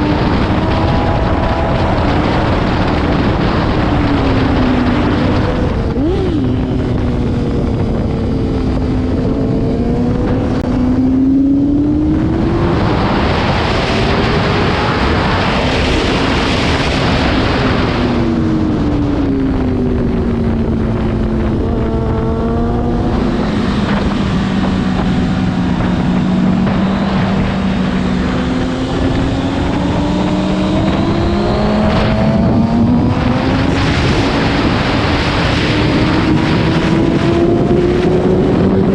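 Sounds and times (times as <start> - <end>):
motorcycle engine accelerating: 0.0 - 38.9
wind rushing over microphone: 0.0 - 38.9.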